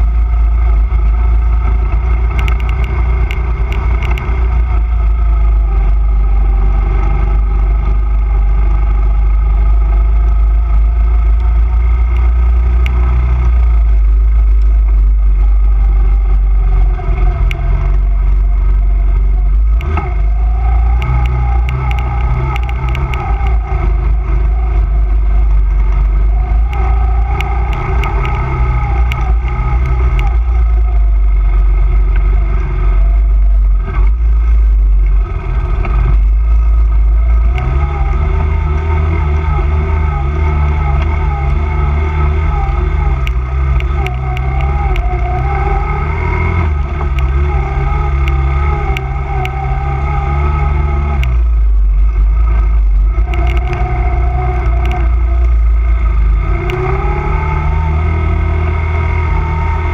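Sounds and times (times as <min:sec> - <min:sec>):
quad engine revving: 0:00.0 - 0:59.9
wind rumble on microphone: 0:00.0 - 0:59.9.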